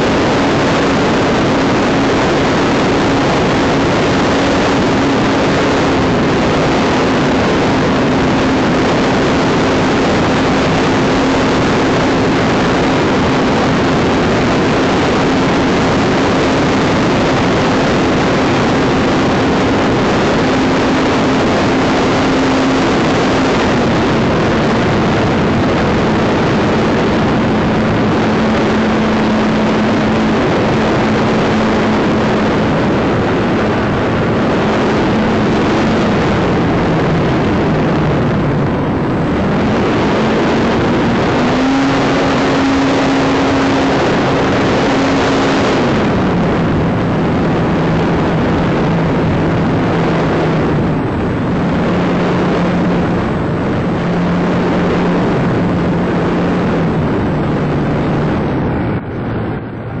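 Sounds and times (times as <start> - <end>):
wind rushing on microphone: 0.0 - 60.0.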